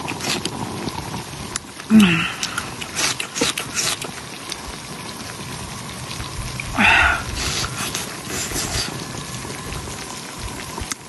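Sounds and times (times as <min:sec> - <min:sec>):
tofu sizzling on a grill: 0:00.0 - 0:11.0.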